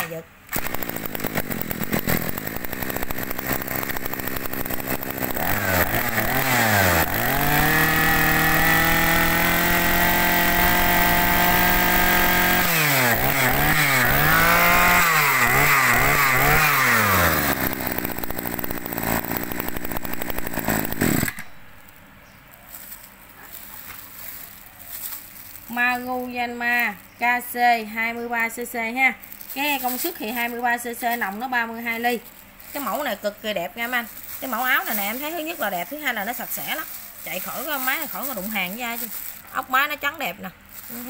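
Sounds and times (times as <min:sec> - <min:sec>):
brush cutter engine revving: 0:00.0 - 0:22.0, 0:22.7 - 0:41.0.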